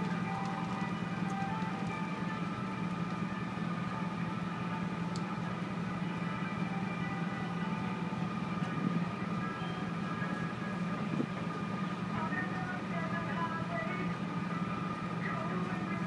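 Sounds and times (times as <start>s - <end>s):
ferry engine droning: 0.0s - 16.0s
thin steady whine: 0.0s - 16.0s.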